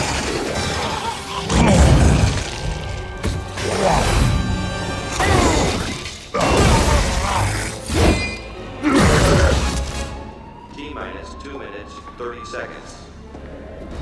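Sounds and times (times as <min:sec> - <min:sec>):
action film score music: 0:00.0 - 0:14.0.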